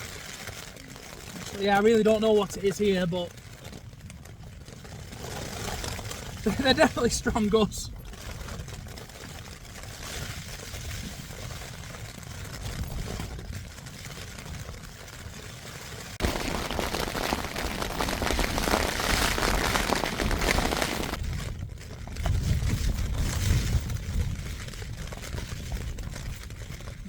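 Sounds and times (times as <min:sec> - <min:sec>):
rain pattering on tent: 0:00.0 - 0:27.0
wind gusts buffeting tent fabric: 0:00.0 - 0:27.0.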